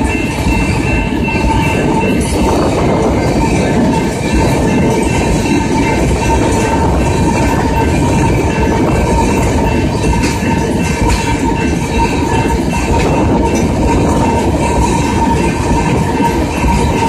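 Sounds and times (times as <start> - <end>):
steady high tone: 0.0 - 17.0
train wheels rumbling on rails: 0.0 - 17.0.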